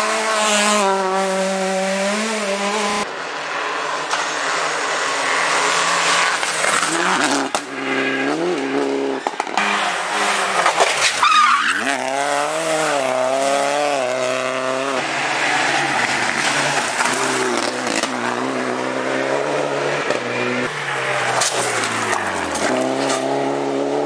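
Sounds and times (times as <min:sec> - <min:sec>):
rally car engines revving: 0:00.0 - 0:24.0.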